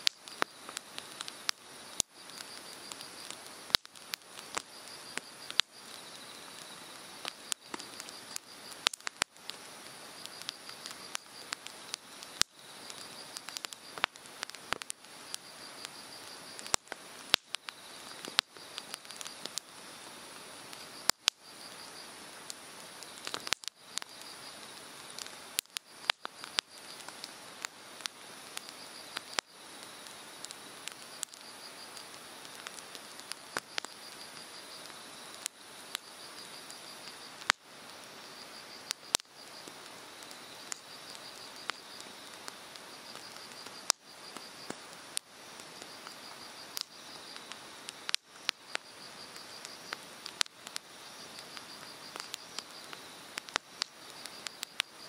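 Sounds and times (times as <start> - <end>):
bonfire crackling and popping: 0.0 - 55.0
insects chirping: 0.0 - 55.0.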